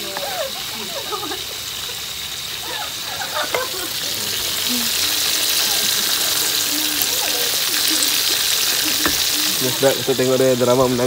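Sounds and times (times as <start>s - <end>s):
fish and onions frying in oil: 0.0s - 11.0s.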